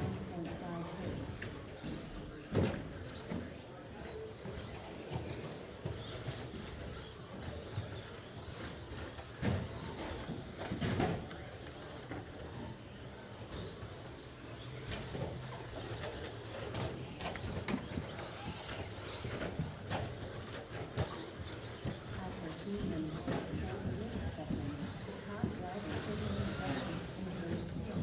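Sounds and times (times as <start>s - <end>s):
noisy background: 0.0s - 28.0s
electric motors whining: 4.2s - 28.0s.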